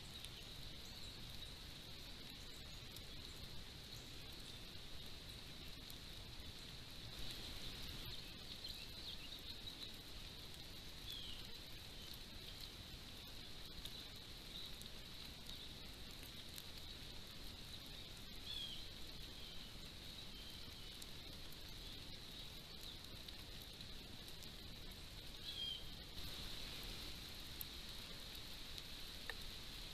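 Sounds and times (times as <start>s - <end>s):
low hiss: 0.0s - 29.9s.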